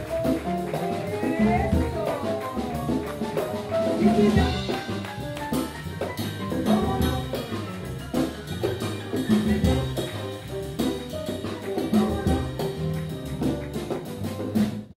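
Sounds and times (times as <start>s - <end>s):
drum kit beat: 0.0s - 14.9s
latin jazz band playing: 0.0s - 14.9s
piano: 0.0s - 14.9s.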